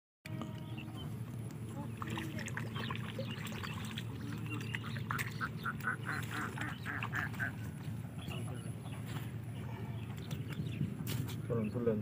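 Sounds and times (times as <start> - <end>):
steady low hum: 0.3 - 12.0.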